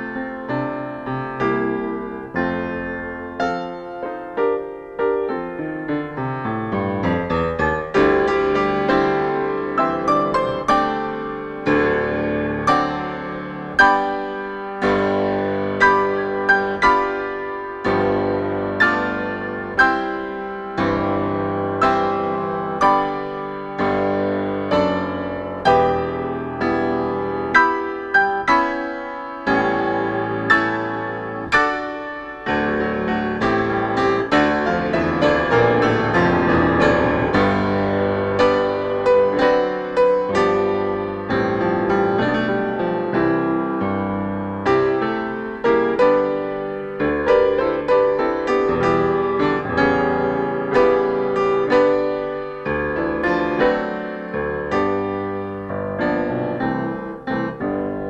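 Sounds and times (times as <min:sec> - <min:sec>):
grand piano chords and runs: 0:00.0 - 0:58.0.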